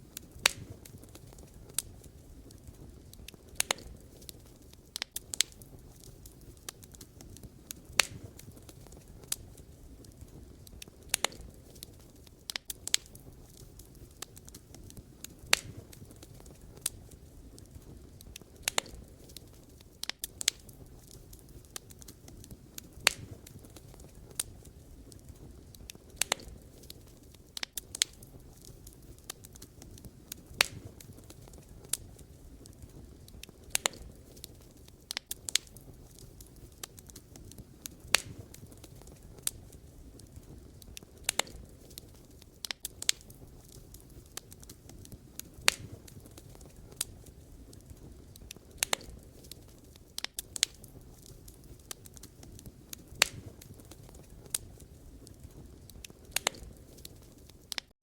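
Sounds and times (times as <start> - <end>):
flames rumbling: 0.0 - 57.9
burning logs popping: 0.0 - 58.0.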